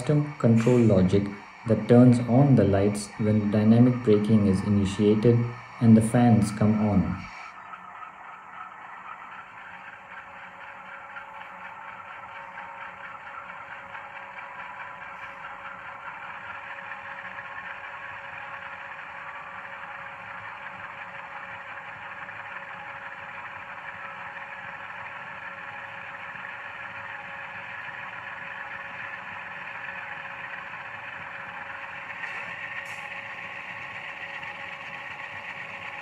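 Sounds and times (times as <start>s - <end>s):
model diesel engine hum: 0.0s - 36.0s.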